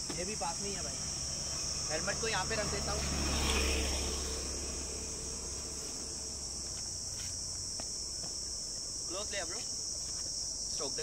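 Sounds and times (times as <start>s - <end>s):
insect chorus chirring: 0.0s - 11.0s.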